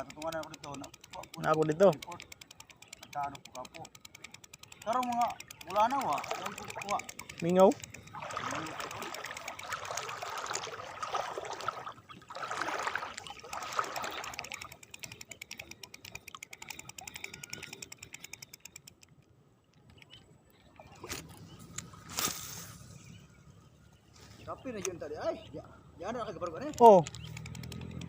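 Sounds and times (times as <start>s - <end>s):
fishing reel clicking: 0.0s - 11.4s, 13.0s - 22.9s, 26.1s - 28.0s.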